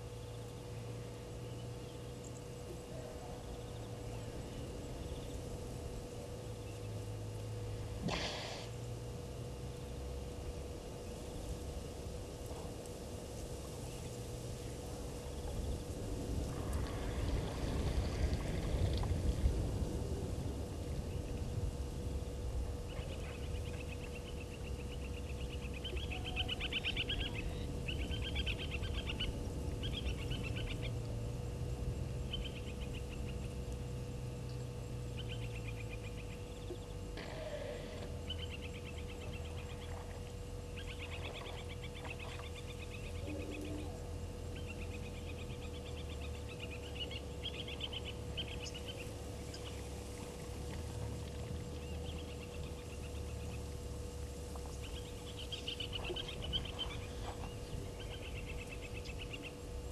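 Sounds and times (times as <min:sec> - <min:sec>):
faint hum: 0:00.0 - 0:59.9
low background rumble: 0:00.0 - 0:59.9.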